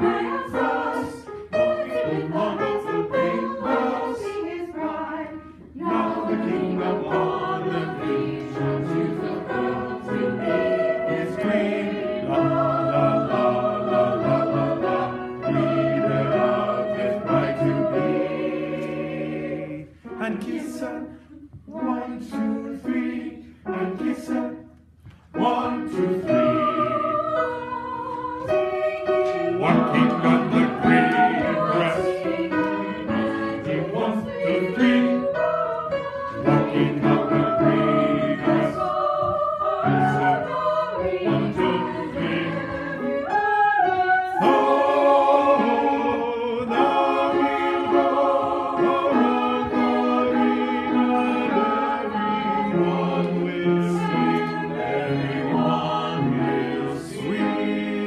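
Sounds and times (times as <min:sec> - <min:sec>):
mixed choir singing: 0:00.0 - 0:24.7, 0:25.3 - 0:58.0.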